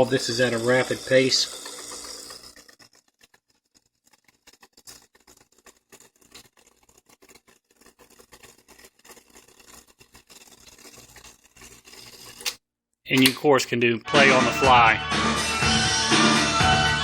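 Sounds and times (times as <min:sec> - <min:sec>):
rapid irregular tape ticking: 0:00.0 - 0:13.8.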